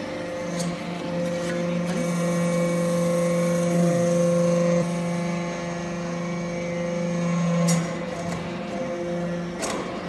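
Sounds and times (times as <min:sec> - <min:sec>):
hydraulic press machine hum: 0:00.0 - 0:10.0.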